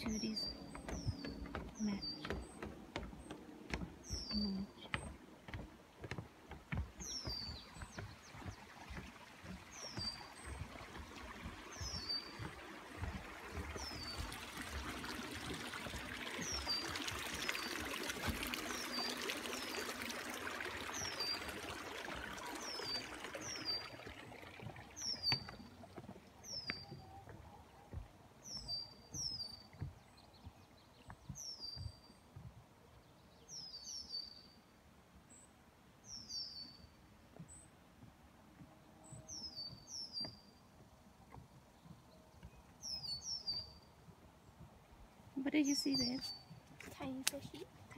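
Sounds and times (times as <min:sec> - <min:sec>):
trickling water: 0:00.0 - 0:34.4, 0:36.0 - 0:47.9.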